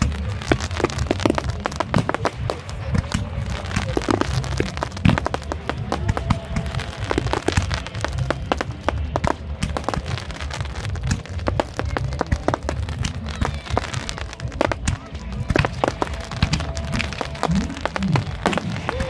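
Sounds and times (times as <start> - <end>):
fireworks cracks and pops: 0.0 - 19.0.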